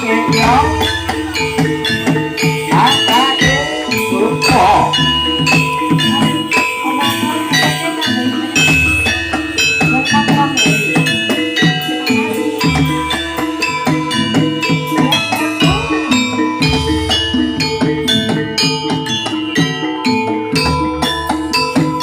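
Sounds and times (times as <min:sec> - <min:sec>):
drums: 0:00.0 - 0:22.0
metal keyed percussion: 0:00.0 - 0:22.0.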